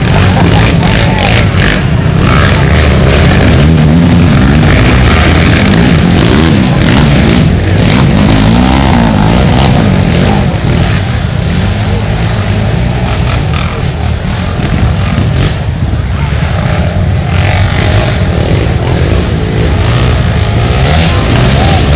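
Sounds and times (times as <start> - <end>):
atv engines revving hard: 0.0 - 21.9.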